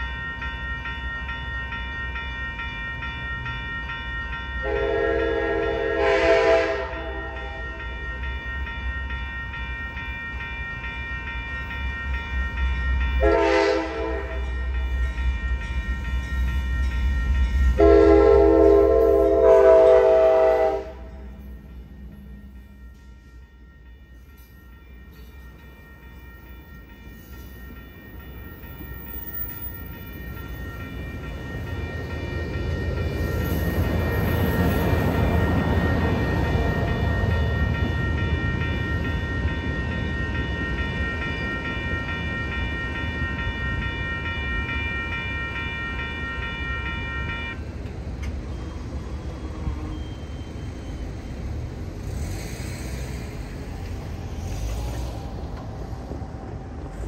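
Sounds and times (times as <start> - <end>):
passenger train rumbling: 0.0 - 57.0
railroad crossing bell ringing: 0.0 - 57.0.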